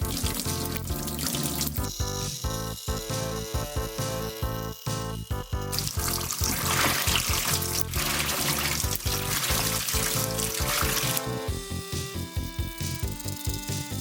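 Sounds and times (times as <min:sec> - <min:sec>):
water spraying in washing machine: 0:00.0 - 0:11.5
background music with beat: 0:00.0 - 0:14.0.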